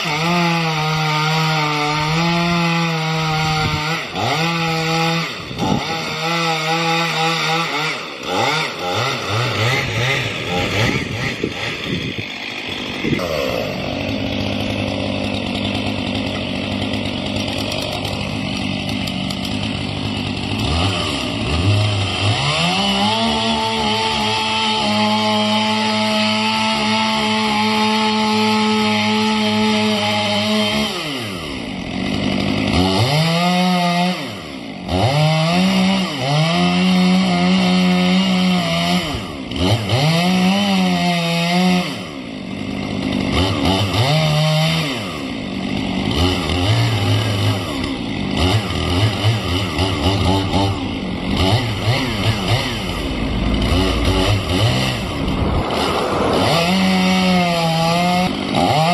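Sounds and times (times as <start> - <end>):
chainsaw revving: 0.0 - 58.9.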